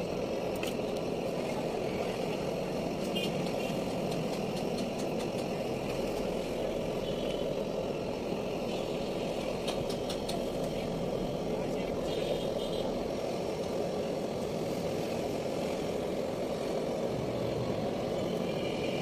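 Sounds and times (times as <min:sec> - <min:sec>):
engine and traffic drone: 0:00.0 - 0:19.0.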